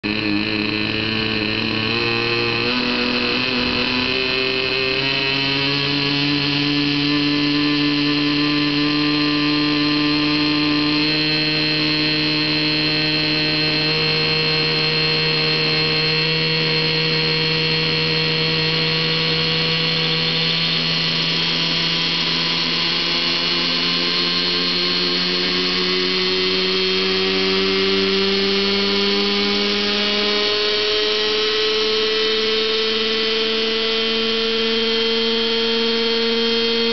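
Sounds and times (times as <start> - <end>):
model helicopter rotor whine: 0.0 - 36.9.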